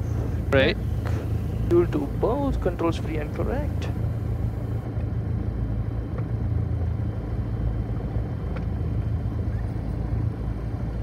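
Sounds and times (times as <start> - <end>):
aircraft engine idling: 0.0 - 11.0.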